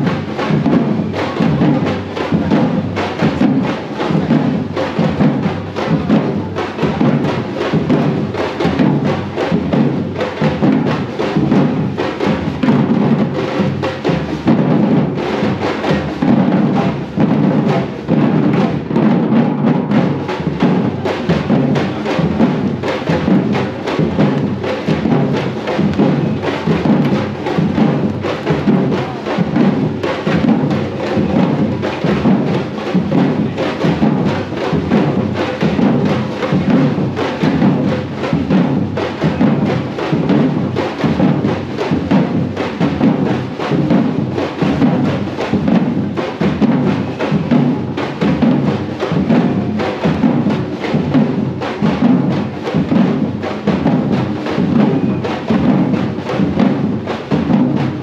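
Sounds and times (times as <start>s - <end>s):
loud drum-driven music: 0.0s - 58.0s.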